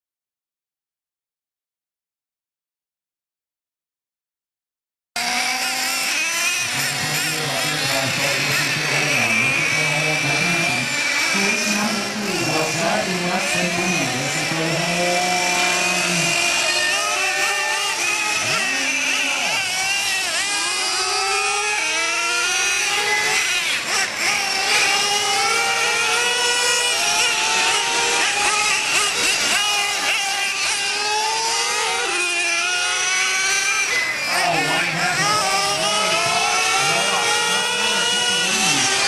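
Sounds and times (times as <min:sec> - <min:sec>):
small engines whining: 0:05.2 - 0:39.0.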